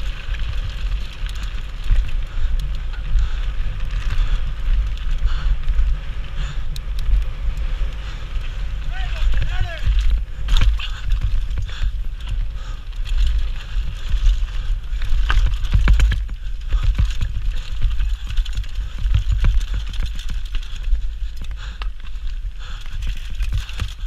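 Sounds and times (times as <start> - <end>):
bike rattling: 0.0 - 24.0
wind rumble on microphone: 0.0 - 24.0.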